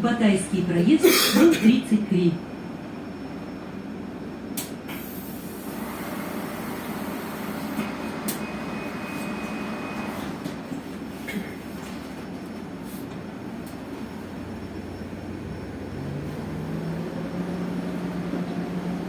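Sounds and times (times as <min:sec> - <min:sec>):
bus cabin hum and rumble: 0:00.0 - 0:19.0.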